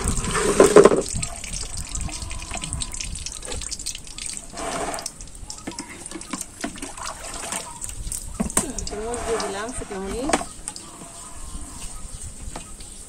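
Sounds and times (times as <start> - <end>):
oil crackling and popping: 0.0 - 10.9.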